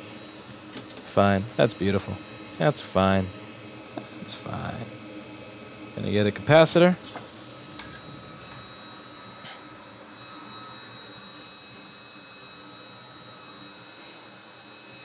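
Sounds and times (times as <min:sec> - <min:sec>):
fan-like hiss of equipment: 0:00.0 - 0:15.0.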